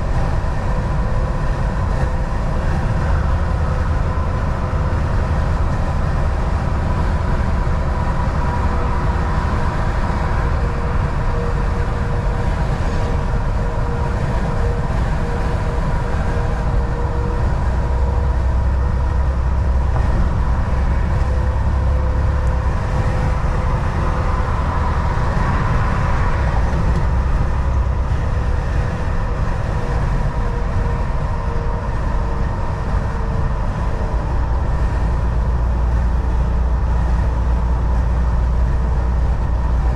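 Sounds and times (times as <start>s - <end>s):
steady whining tone: 0.0s - 39.9s
truck engine drone: 0.0s - 39.9s
tyre road noise: 0.0s - 39.9s.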